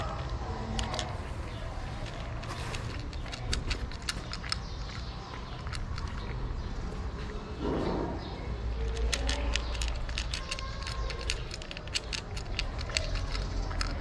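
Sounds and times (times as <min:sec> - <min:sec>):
cat crunching dry kibble: 0:00.0 - 0:07.5, 0:08.8 - 0:14.0.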